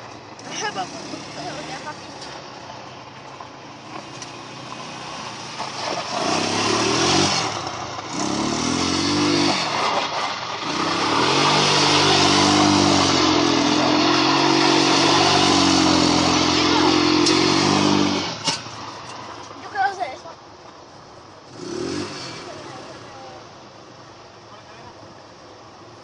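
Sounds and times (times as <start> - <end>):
atv engine accelerating: 0.0 - 19.4, 21.4 - 23.4.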